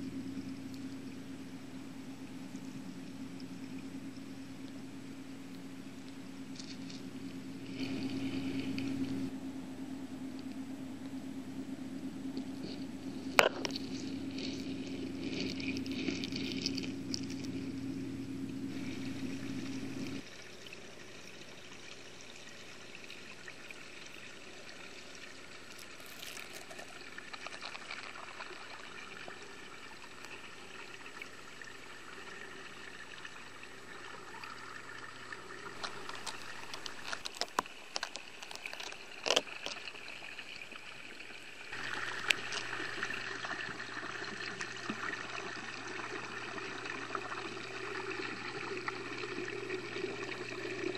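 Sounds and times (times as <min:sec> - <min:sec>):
water flowing underwater: 0:00.0 - 0:50.9.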